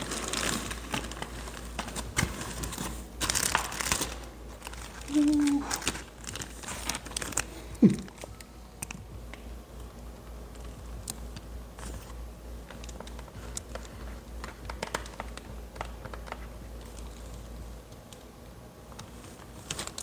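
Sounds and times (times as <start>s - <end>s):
plastic packaging clicks: 0.0s - 9.9s, 10.5s - 17.2s, 18.9s - 20.0s.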